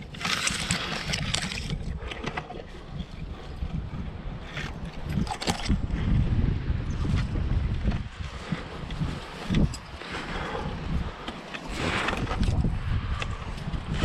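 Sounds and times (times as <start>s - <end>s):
scraping and rustling against rock: 0.0s - 6.0s, 6.9s - 14.0s
wind rumbling on microphone: 0.0s - 14.0s.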